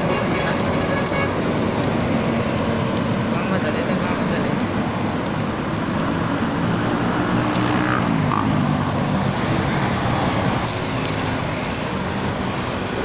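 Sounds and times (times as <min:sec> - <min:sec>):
traffic passing: 0:00.0 - 0:13.0.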